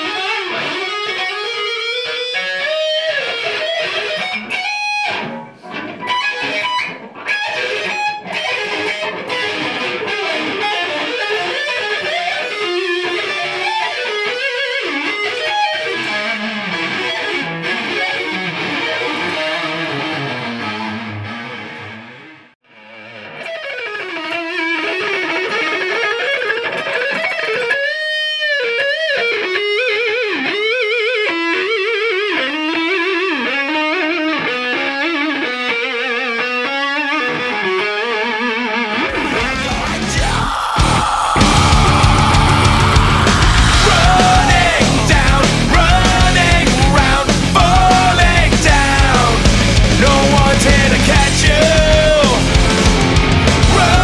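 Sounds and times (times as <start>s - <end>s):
electric guitar lead line: 0.0s - 54.0s.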